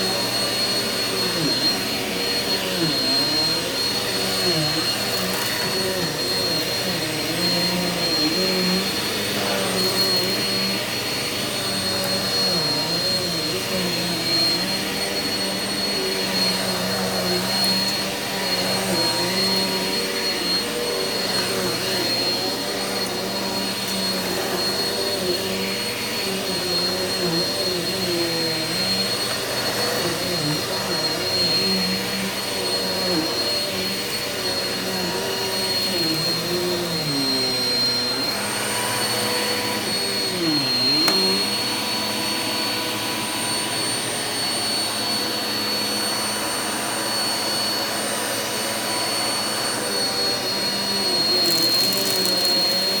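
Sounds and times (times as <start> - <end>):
vacuum cleaner on carpet: 0.0 - 53.0.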